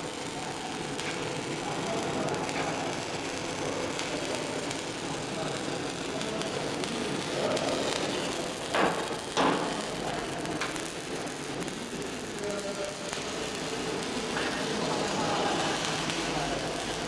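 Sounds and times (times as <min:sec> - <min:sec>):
arc welding crackling and hissing: 0:00.0 - 0:17.0.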